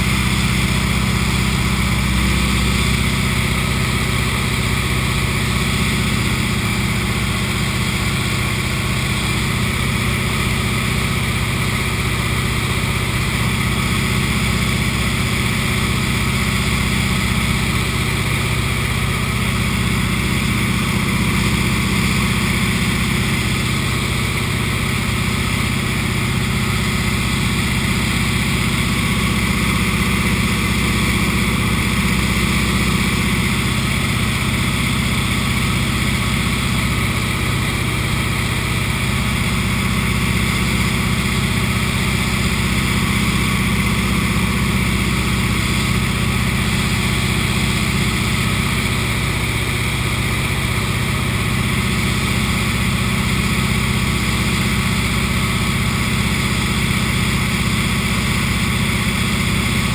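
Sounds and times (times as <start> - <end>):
propeller plane engine drone: 0.0 - 59.9.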